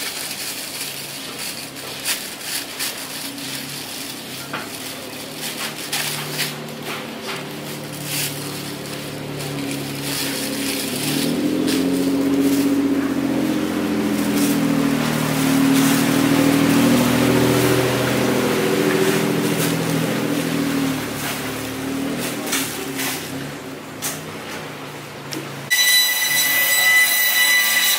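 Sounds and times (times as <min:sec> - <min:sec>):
plastic bag crinkling: 0:00.0 - 0:23.4.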